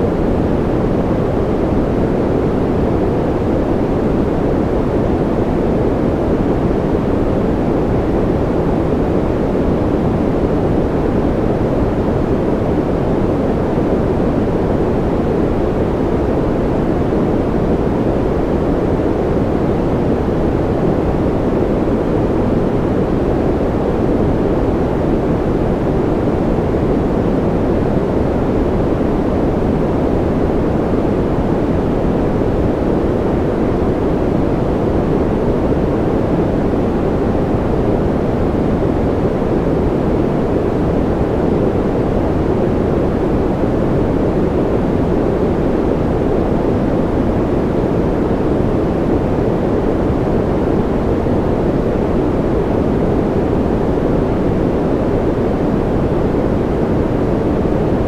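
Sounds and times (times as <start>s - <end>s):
deep white noise rush: 0.0s - 58.0s.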